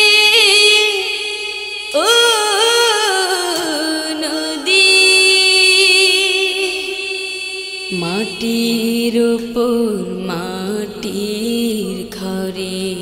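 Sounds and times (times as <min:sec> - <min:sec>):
person singing long notes: 0:00.0 - 0:13.0.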